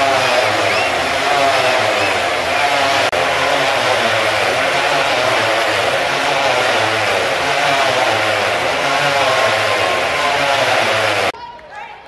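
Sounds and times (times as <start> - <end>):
motorcycle engines revving: 0.0 - 11.4.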